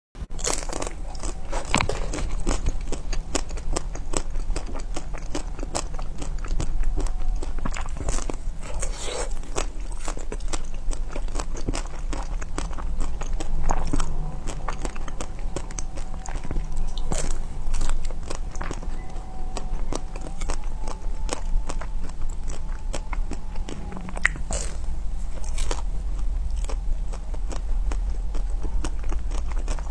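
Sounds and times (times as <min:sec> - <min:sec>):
ice cream bar crunching: 0:00.3 - 0:29.9.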